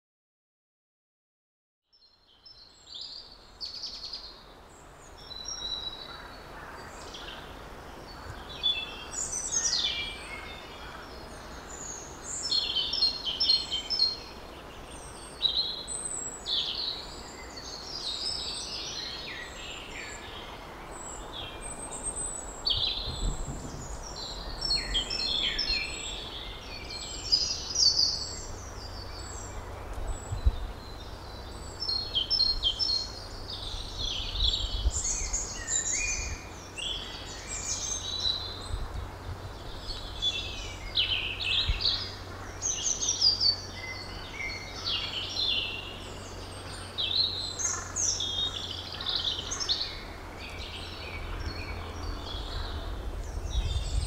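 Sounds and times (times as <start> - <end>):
wild birds singing and calling: 2.0 - 54.0.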